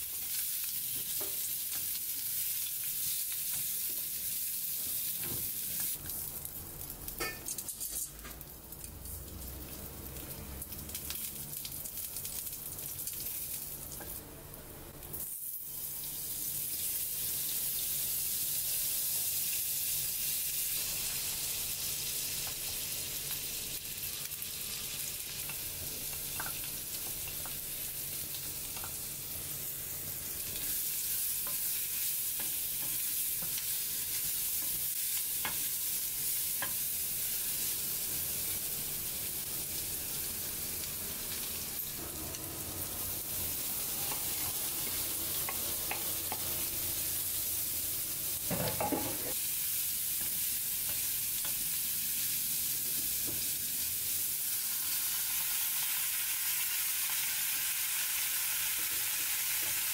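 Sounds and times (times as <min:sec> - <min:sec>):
sausages and bacon sizzling: 0:00.0 - 0:59.9.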